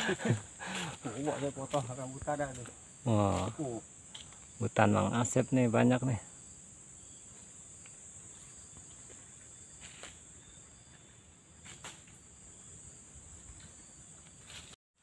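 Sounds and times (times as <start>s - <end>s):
insects trilling: 0.0s - 14.8s.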